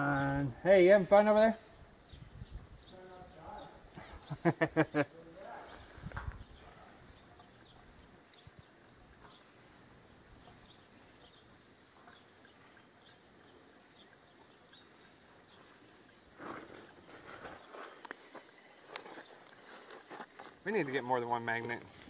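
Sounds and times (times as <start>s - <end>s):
insect chorus drone: 0.0s - 22.0s
rustle: 0.0s - 22.0s
short insect chirps: 0.0s - 22.0s.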